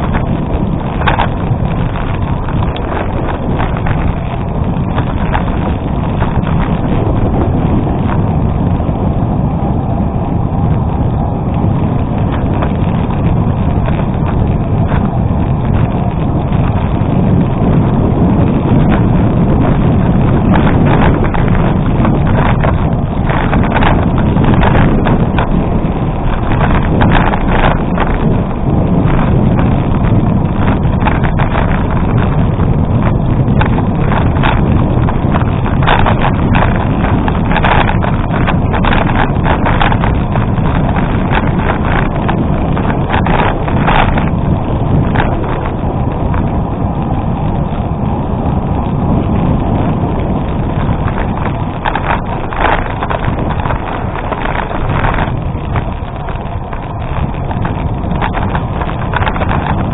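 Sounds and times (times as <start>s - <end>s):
bicycle tyres rolling on gravel: 0.0s - 59.9s
stones and bike rattling: 0.0s - 59.9s
wind buffeting microphone: 0.0s - 59.9s.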